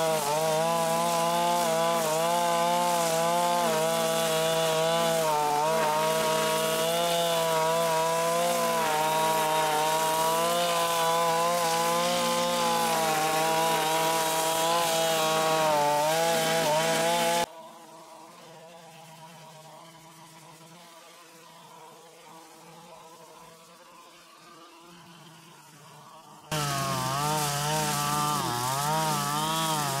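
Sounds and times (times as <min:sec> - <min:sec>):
brush cutter cutting grass: 0:00.0 - 0:30.0.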